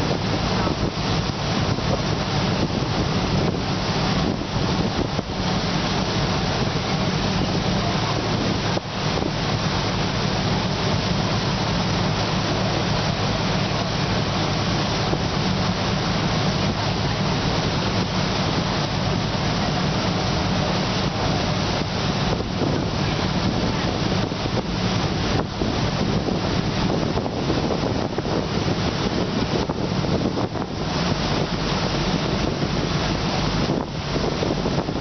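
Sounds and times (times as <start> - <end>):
boat engine humming: 0.0 - 35.0
water rushing along hull: 0.0 - 35.0
wind noise on microphone: 0.0 - 35.0.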